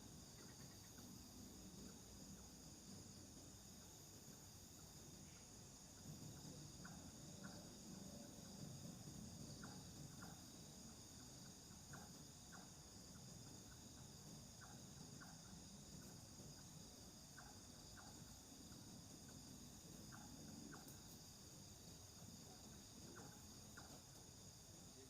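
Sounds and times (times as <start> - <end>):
insects trilling: 0.0 - 25.0
short insect chirps: 0.0 - 25.0.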